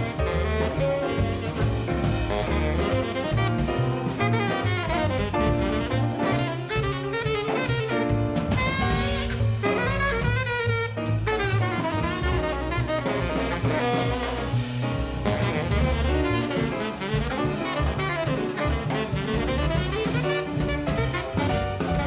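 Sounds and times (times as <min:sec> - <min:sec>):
bass: 0:00.0 - 0:22.0
drums with ride cymbal: 0:00.0 - 0:22.0
tenor saxophone jazz solo: 0:00.0 - 0:22.0.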